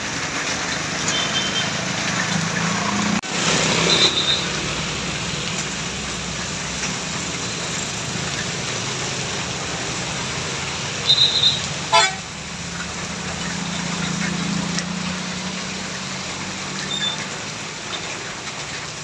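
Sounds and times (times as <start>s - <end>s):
bus and traffic engines running: 0.0s - 19.0s.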